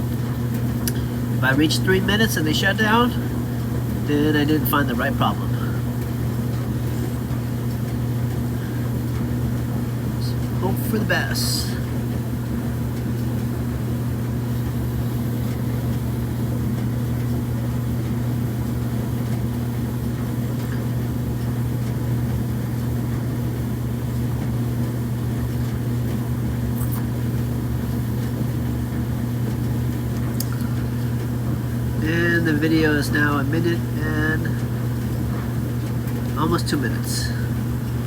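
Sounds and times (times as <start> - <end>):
clothes dryer humming: 0.0 - 38.0.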